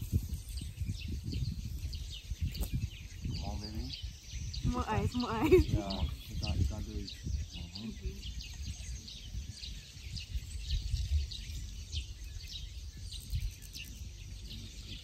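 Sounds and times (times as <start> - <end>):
birds chirping: 0.0 - 15.0
wind rumble on microphone: 0.0 - 15.0.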